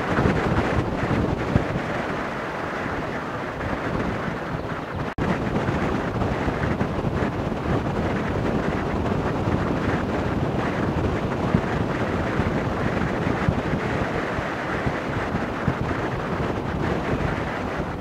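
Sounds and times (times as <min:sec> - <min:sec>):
wind roaring across microphone: 0:00.0 - 0:18.0.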